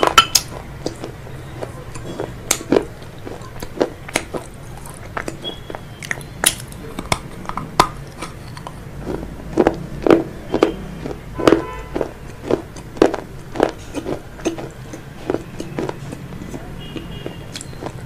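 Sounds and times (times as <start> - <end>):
crunchy food being bitten: 0.0 - 18.0.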